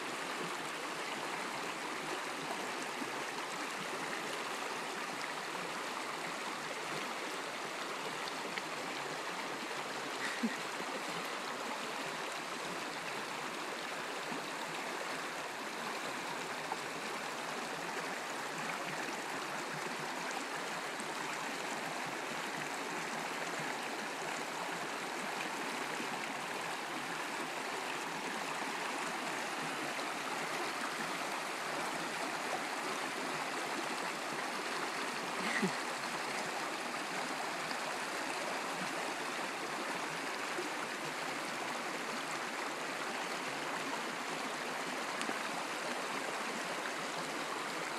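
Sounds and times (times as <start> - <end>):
creek water running over rocks: 0.0 - 47.9.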